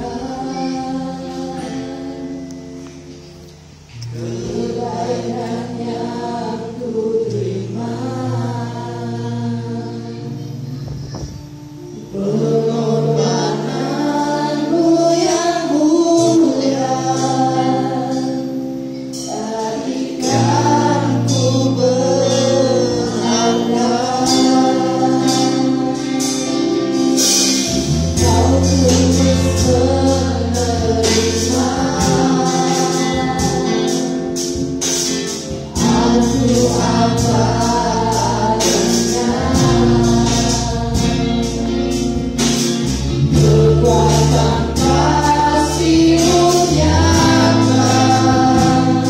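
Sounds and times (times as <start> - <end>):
group singing together: 0.0 - 3.2, 3.9 - 11.0, 11.8 - 49.0
sustained instrumental chords: 0.0 - 49.0.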